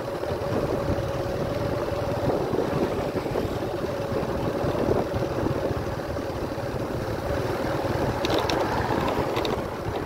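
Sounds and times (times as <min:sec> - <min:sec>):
road noise rumble: 0:00.0 - 0:10.0
vehicle engine droning: 0:00.0 - 0:10.0.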